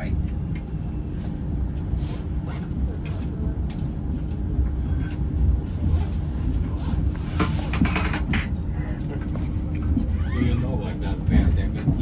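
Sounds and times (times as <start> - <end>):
constant hum: 0.0 - 12.0
train running gear rumble: 0.0 - 12.0.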